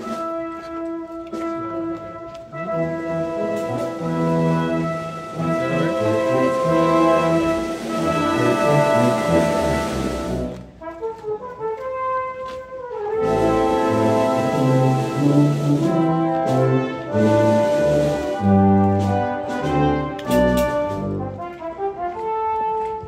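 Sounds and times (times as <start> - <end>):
brass and percussion band march: 0.0 - 23.0.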